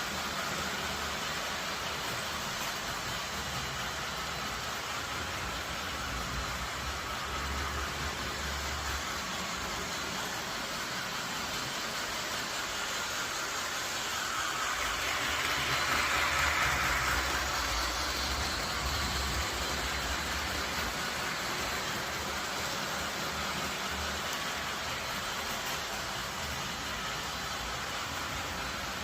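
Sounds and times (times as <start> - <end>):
train rolling: 0.0 - 29.0.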